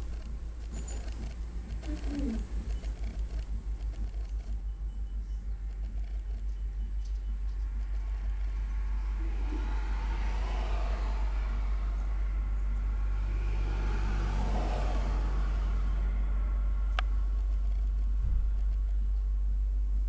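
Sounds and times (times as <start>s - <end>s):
distant diesel locomotives droning: 0.0s - 18.1s.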